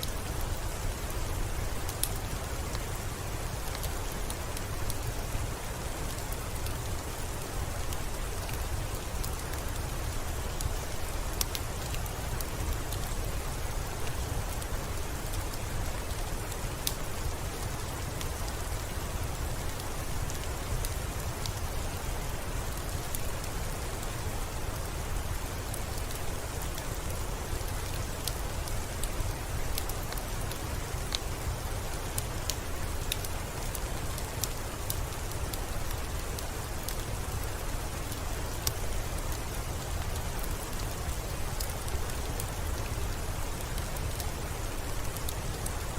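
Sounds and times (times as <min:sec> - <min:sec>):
steady rain falling: 0:00.0 - 0:45.9
wood fire crackling: 0:00.0 - 0:45.9.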